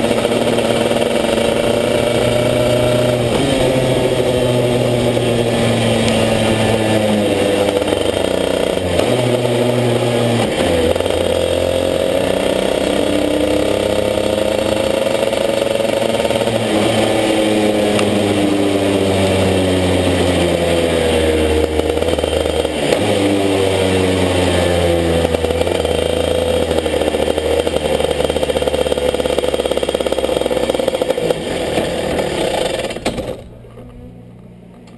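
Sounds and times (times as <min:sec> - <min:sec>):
kart engine revving: 0:00.0 - 0:34.4.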